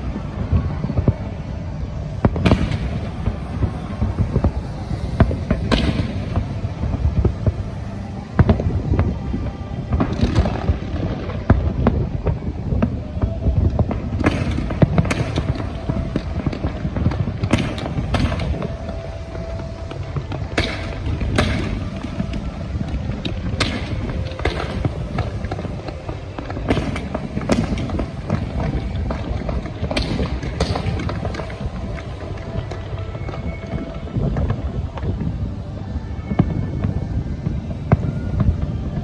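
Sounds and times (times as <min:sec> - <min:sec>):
fireworks bangs and crackles: 0:00.0 - 0:39.0
fireworks rumble: 0:00.0 - 0:39.0.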